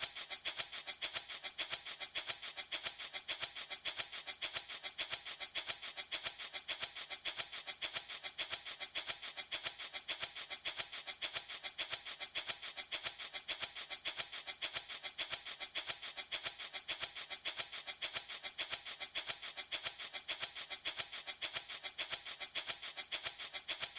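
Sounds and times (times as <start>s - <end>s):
wooden baby rattle shaking: 0.0s - 23.9s.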